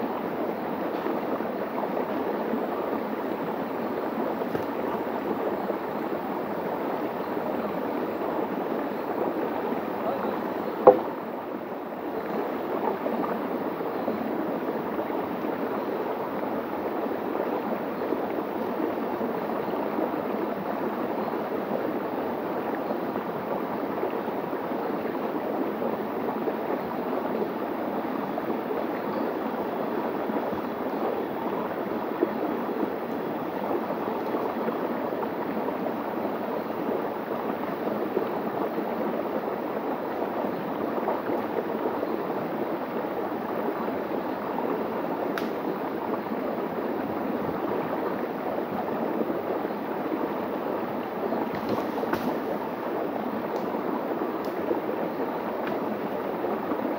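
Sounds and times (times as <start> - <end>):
stream running over rock: 0.0 - 56.9.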